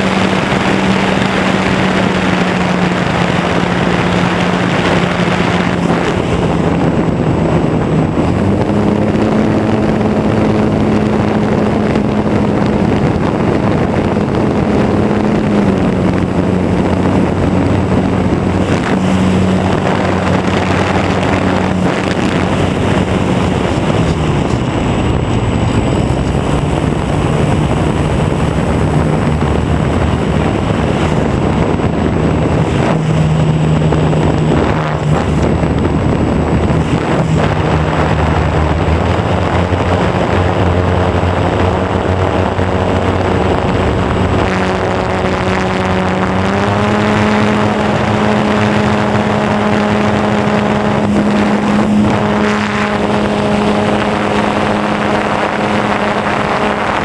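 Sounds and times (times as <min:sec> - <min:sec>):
model airplane motor hum: 0:00.0 - 0:57.0
wind over microphone: 0:00.0 - 0:57.0.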